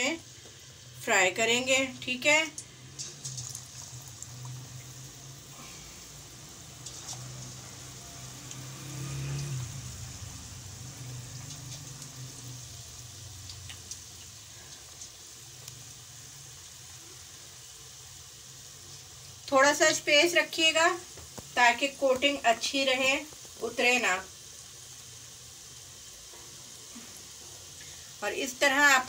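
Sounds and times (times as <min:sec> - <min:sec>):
wedges deep-frying in oil: 0:00.0 - 0:29.0
oil crackles and pops: 0:01.9 - 0:20.0, 0:21.0 - 0:28.1.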